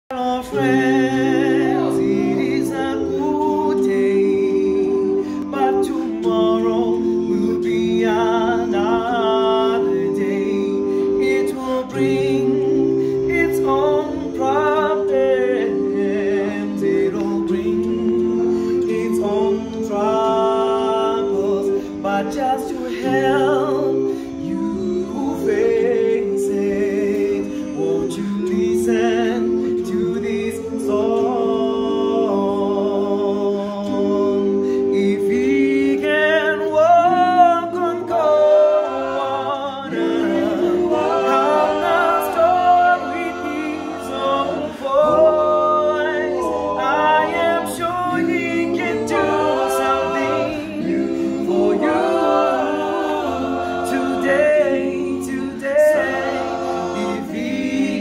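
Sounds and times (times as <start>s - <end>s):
male a cappella group singing: 0.1s - 58.0s.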